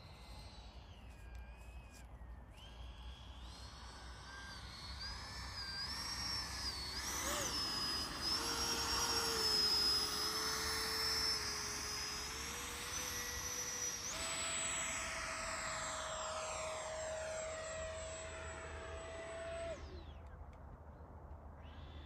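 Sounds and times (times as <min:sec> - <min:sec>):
electric ducted fan whining: 0:00.0 - 0:20.9.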